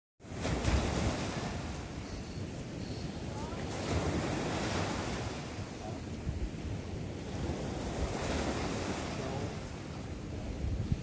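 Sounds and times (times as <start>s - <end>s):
lake waves washing: 0.2s - 11.0s
wind gusting across microphone: 0.2s - 11.0s.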